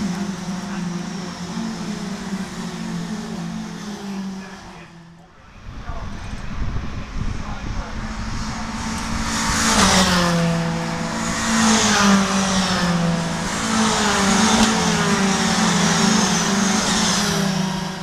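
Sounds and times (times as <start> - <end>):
race cars passing by: 0.0 - 18.0.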